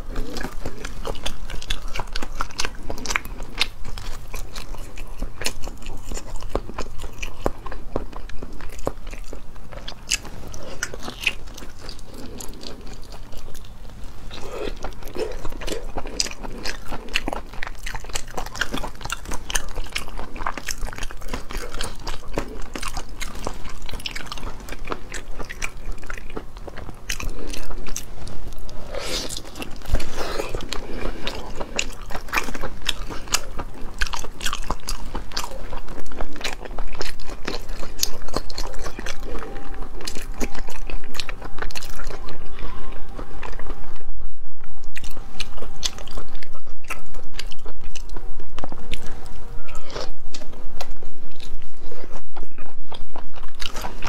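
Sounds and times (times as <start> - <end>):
close eating and chewing: 0.0 - 54.0.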